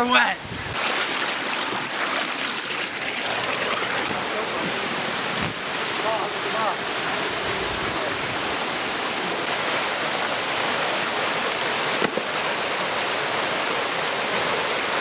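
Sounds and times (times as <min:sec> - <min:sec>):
creek water rushing over rocks: 0:00.7 - 0:15.0.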